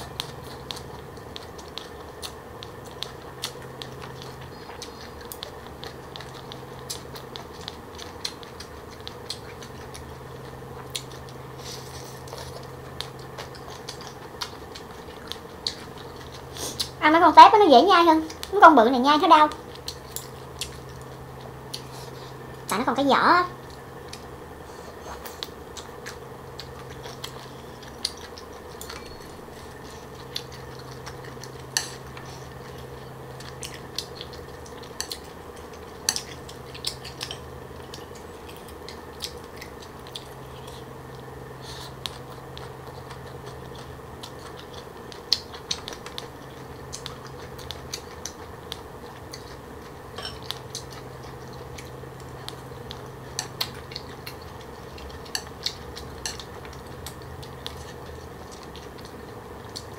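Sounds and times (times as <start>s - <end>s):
chewing crunches: 0.0s - 17.0s, 19.5s - 22.8s, 23.6s - 59.9s
steady low hum: 0.0s - 59.9s.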